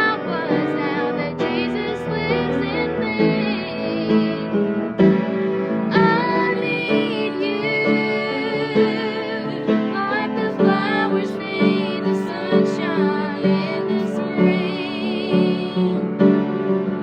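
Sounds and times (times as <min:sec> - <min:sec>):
woman singing: 0:00.0 - 0:04.8, 0:05.9 - 0:16.2
piano accompaniment: 0:00.0 - 0:17.0.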